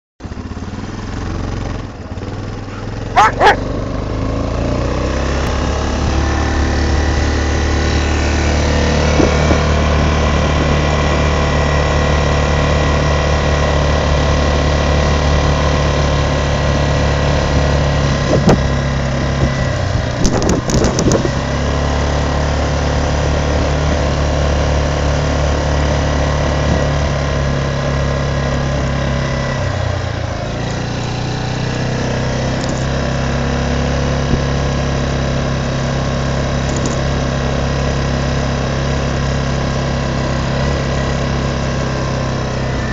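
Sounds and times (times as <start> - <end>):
quad bike engine running: 0.2 - 42.9.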